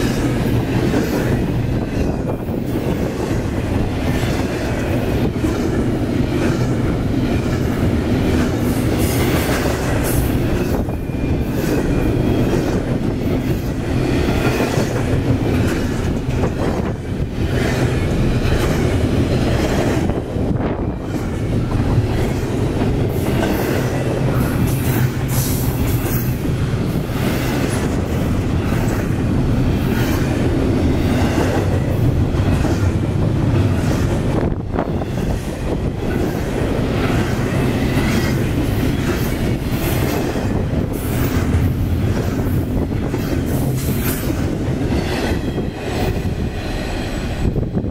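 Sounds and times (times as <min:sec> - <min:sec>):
rhythmic clickety-clack: 0:00.0 - 0:47.6
train wheels rumbling on a bridge: 0:00.0 - 0:47.9.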